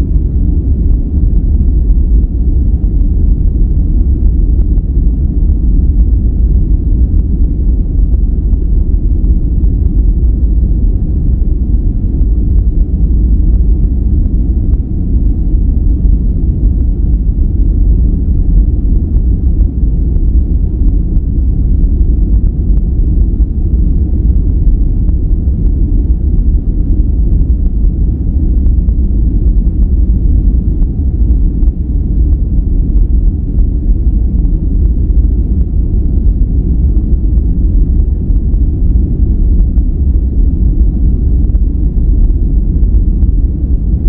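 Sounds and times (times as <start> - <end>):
dark rumbling brown noise: 0.0 - 44.0.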